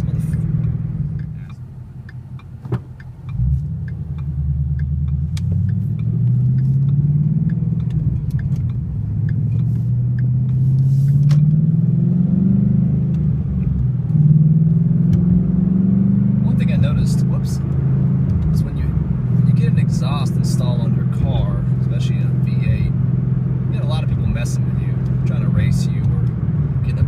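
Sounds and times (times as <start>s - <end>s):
car engine drone accelerating: 0.0s - 27.0s.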